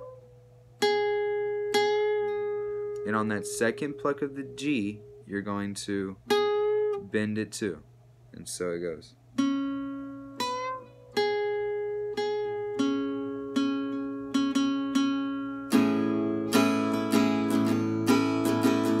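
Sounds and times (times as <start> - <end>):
acoustic guitar picking notes: 0.0 - 7.7, 9.2 - 19.0.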